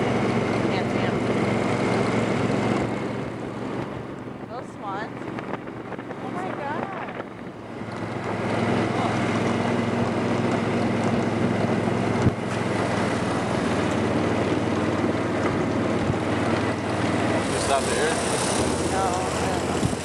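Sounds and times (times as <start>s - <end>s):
vehicle engine running: 0.0s - 20.0s
wind buffeting microphone: 0.0s - 20.0s.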